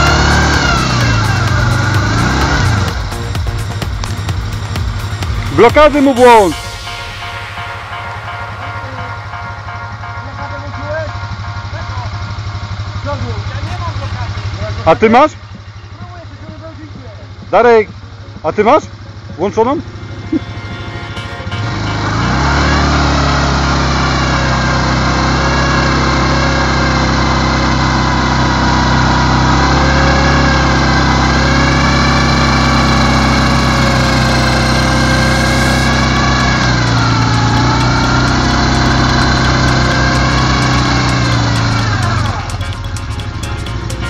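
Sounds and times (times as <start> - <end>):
atv engine revving: 0.0 - 6.5, 11.6 - 44.0.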